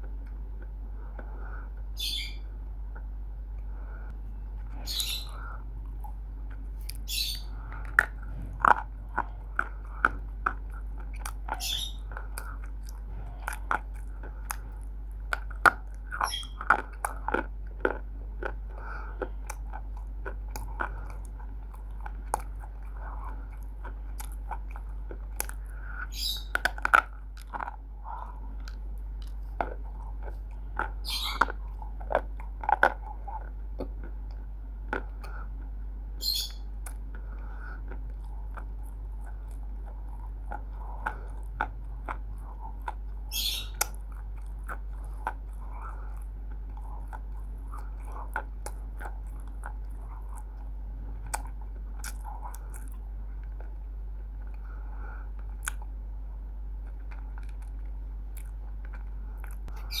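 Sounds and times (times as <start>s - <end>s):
chewing crunchy clay: 4.6s - 60.0s.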